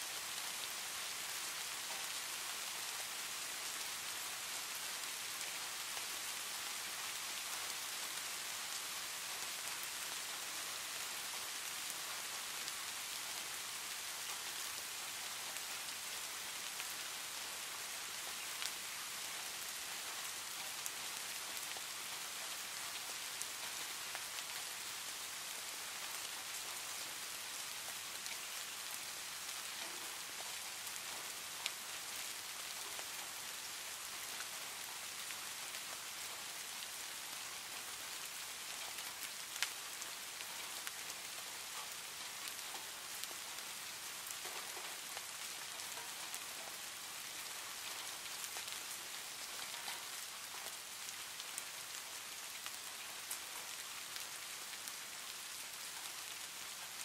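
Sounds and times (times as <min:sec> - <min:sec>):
steady rain falling: 0:00.0 - 0:57.0
sharp rain ticks: 0:00.1 - 0:57.0.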